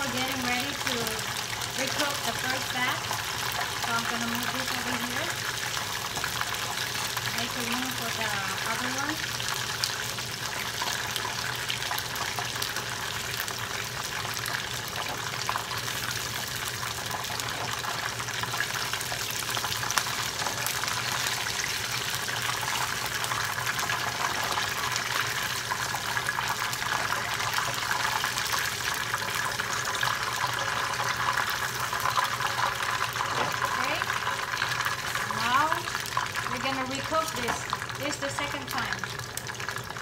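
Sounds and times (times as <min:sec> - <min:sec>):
oil sizzling and crackling: 0:00.0 - 0:40.0.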